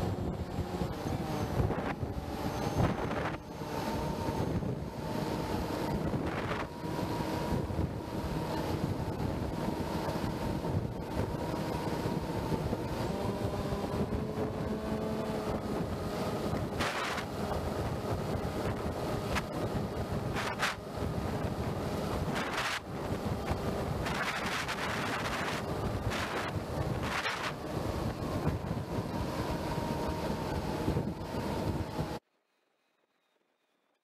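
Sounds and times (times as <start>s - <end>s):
electric motor and propeller hum: 0.0s - 32.2s
wind rushing over microphone: 0.0s - 32.2s.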